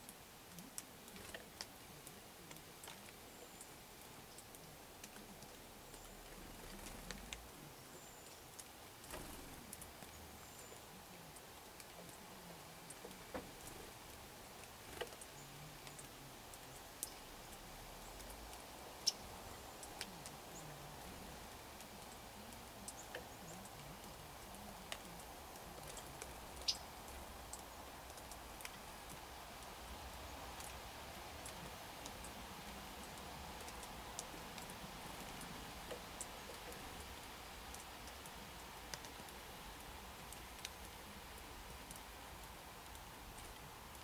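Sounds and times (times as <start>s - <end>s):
faint outdoor background: 0.0s - 44.0s
quiet hiss: 0.0s - 44.0s.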